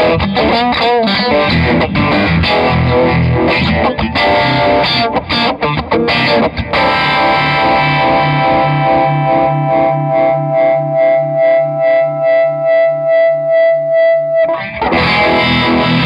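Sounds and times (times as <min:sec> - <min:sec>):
electric guitar chords with vibrato: 0:00.0 - 0:16.0.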